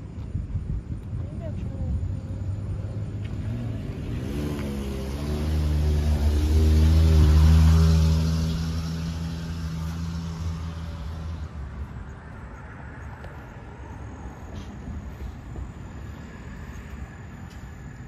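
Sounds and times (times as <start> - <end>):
faint outdoor background noise: 0.0 - 18.0
vehicle engine passing by: 1.9 - 18.0.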